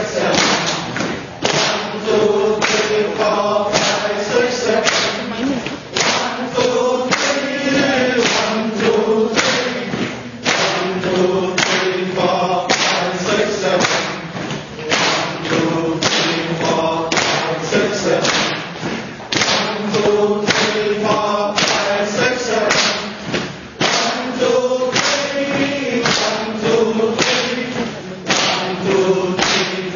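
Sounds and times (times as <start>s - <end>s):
rhythmic hand claps: 0.0s - 29.9s
voices chanting in unison: 0.0s - 29.9s.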